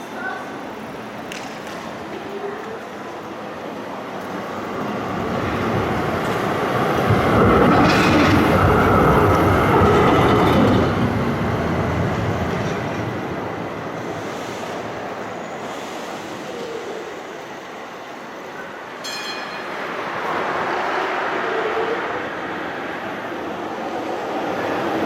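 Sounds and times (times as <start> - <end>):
tram passing on rails: 0.0 - 25.0.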